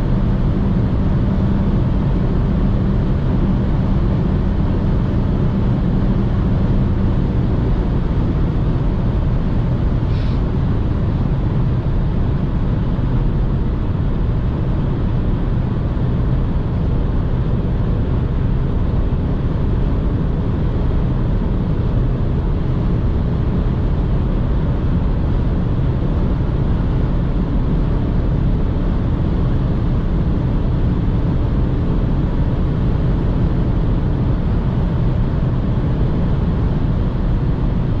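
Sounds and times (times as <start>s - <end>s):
car engine at high revs: 0.0s - 38.0s
wind and tyre noise: 0.0s - 38.0s.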